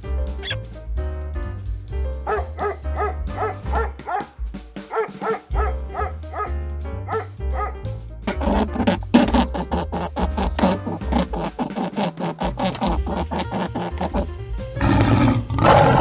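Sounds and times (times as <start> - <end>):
music with bass beat: 0.0 - 11.4, 14.0 - 16.0
dog yapping: 0.4 - 0.6, 2.3 - 16.0.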